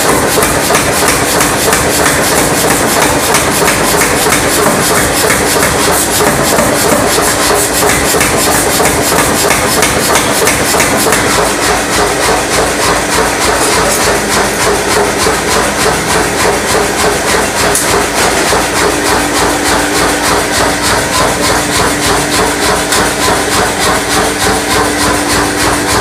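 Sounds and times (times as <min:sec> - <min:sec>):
power hammer striking steel: 0:00.0 - 0:26.0
steady hum: 0:00.0 - 0:26.0.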